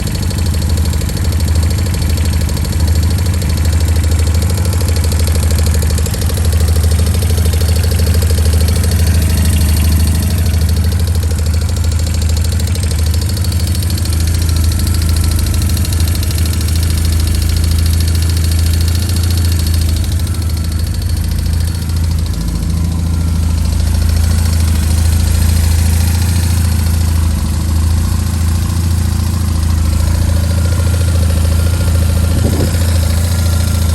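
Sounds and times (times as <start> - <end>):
engine ticking and clattering: 0.0 - 33.9
motorcycle engine idling: 0.0 - 33.9.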